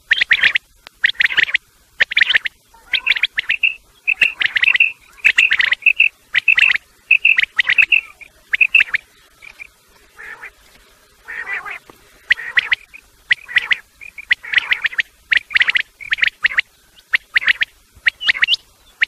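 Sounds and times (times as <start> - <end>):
quail piping notes: 0.0 - 10.6, 11.2 - 19.0
quail scratchy calls: 0.0 - 19.0.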